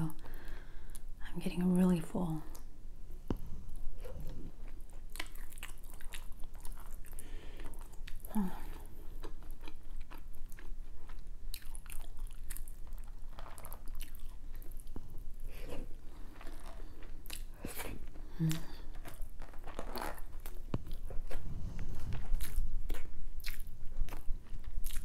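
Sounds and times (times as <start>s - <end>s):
person chewing and biting food: 3.4s - 25.0s.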